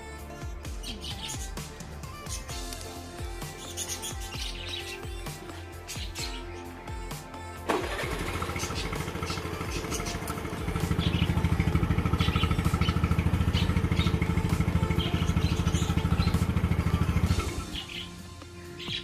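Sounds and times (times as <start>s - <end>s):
motorcycle engine idling: 0.2s - 19.0s.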